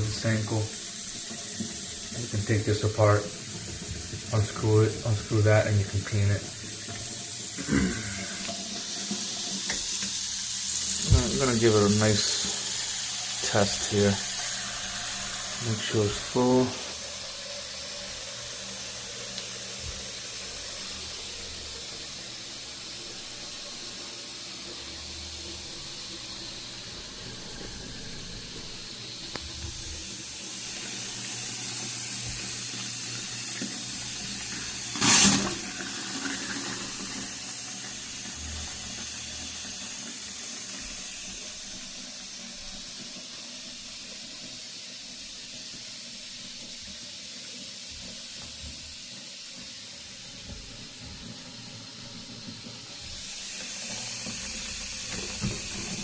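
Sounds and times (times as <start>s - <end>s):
water running into a sink: 0.0s - 56.0s.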